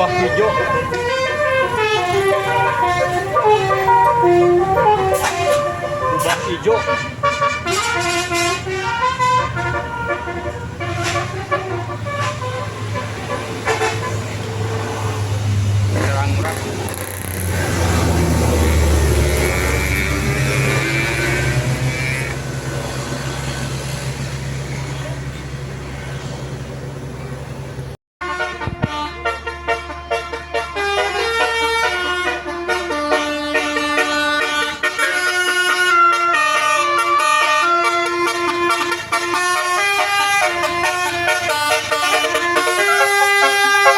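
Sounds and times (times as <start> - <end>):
bus horn playing a melody: 0.0 - 24.0, 28.2 - 43.9
bus engine humming: 0.0 - 43.9.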